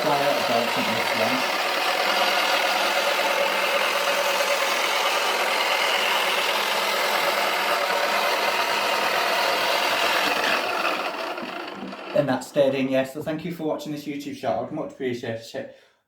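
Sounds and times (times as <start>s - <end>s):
toy washing machine motor whirring: 0.0s - 13.3s.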